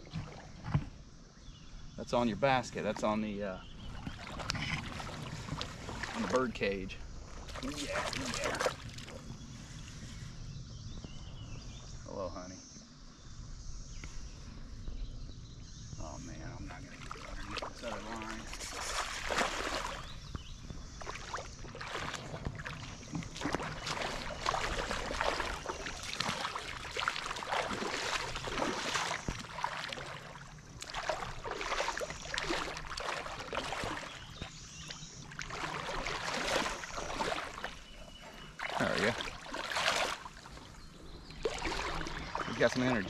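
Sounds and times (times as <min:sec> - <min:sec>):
water splashing and sloshing: 0:00.0 - 0:01.2, 0:02.0 - 0:10.2, 0:16.4 - 0:43.0.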